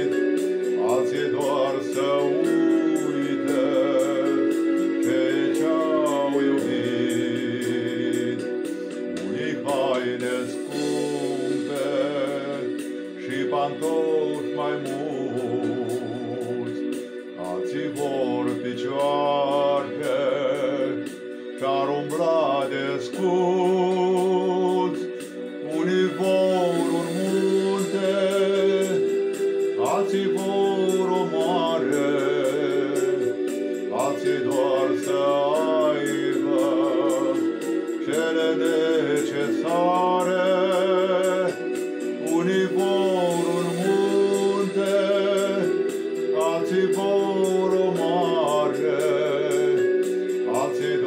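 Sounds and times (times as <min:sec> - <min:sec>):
instrumental backing music: 0:00.0 - 0:51.0
man singing with vibrato: 0:00.0 - 0:51.0.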